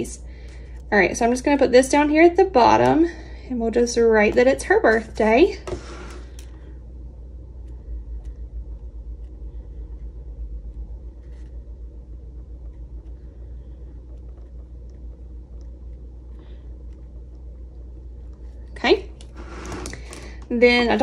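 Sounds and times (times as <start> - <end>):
low unsteady rumble: 0.0 - 21.0.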